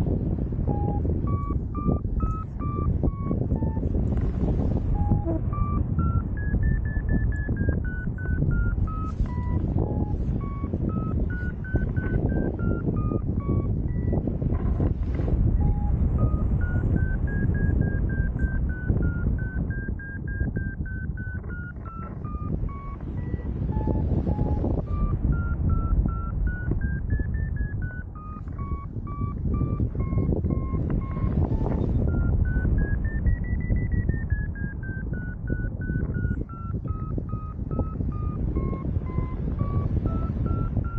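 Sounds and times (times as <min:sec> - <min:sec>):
wind rushing over microphone: 0:00.0 - 0:40.9
variometer short beeps: 0:00.6 - 0:14.9, 0:15.5 - 0:40.9.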